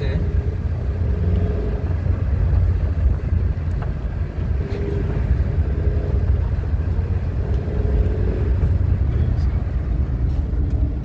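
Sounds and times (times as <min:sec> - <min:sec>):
faint hum: 0:00.0 - 0:11.0
road vehicle rumbling: 0:00.0 - 0:11.0.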